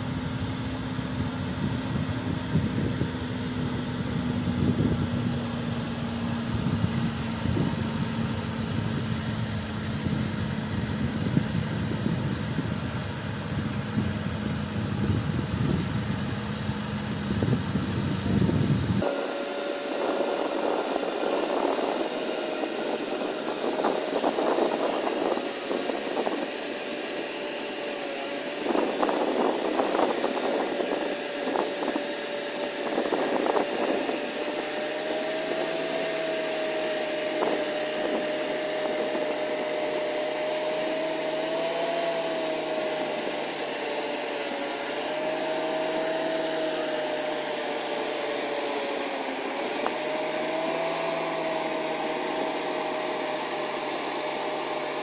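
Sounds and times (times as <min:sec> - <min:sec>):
vehicle engine whining: 0:00.0 - 0:55.0.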